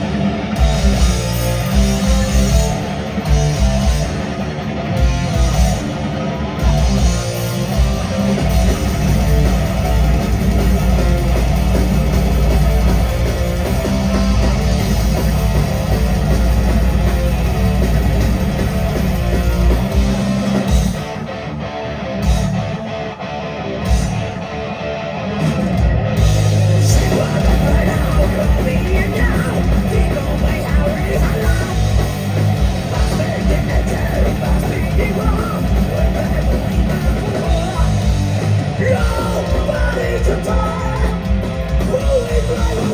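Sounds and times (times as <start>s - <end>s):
rock band playing live: 0.0s - 42.9s.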